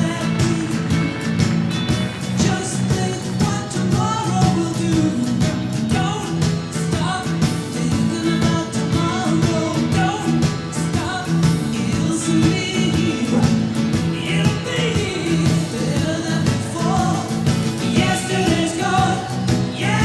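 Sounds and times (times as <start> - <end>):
pop-rock song with singing: 0.0 - 20.0
steady drum beat: 0.0 - 20.0.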